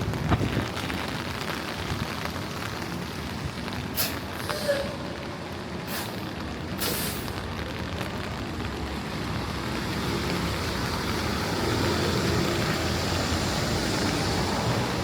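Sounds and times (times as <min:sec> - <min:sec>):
rain on street: 0:00.0 - 0:15.0
tyres hissing on wet road: 0:00.0 - 0:15.0.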